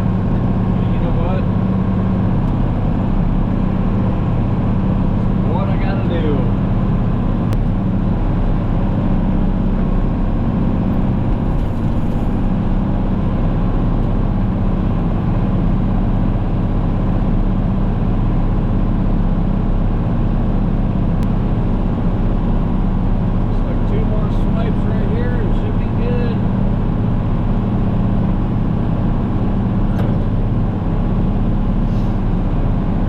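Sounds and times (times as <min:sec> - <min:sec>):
engine humming steadily: 0:00.0 - 0:33.0.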